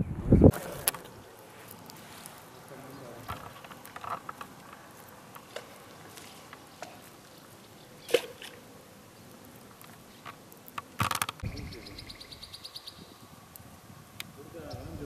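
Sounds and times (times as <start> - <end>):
low steady hiss: 0.0 - 15.0
small ticks and clicks: 0.5 - 14.8.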